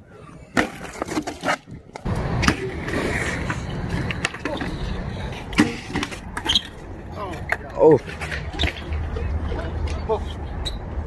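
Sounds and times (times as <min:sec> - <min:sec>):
bike wheels rumbling on concrete: 0:00.2 - 0:11.0
bike clicks and knocks: 0:01.0 - 0:10.8.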